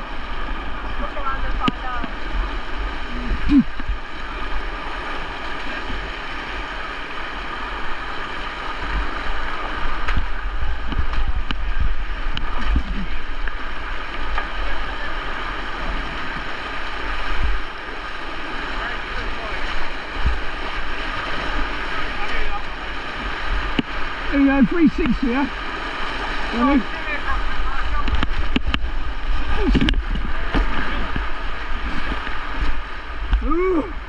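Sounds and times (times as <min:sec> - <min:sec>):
river water rushing and gurgling: 0:00.0 - 0:34.0.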